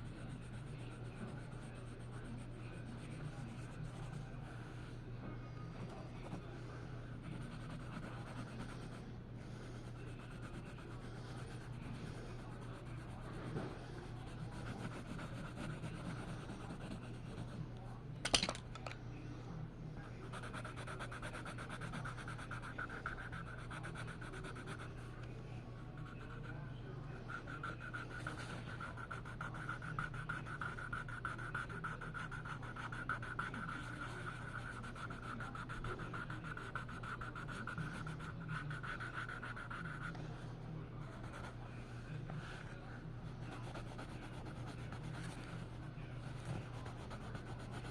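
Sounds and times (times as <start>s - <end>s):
drawing tool scratching paper: 0.0s - 4.9s, 7.1s - 17.6s, 20.2s - 25.0s, 26.0s - 26.6s, 27.2s - 40.2s, 41.0s - 41.6s, 43.4s - 47.9s.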